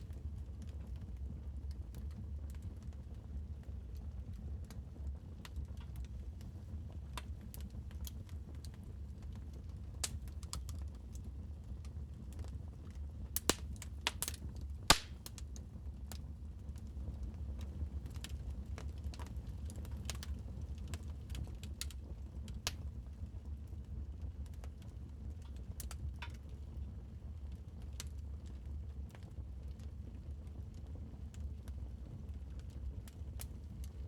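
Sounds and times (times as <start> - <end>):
wood fire crackling: 0.1 - 34.0.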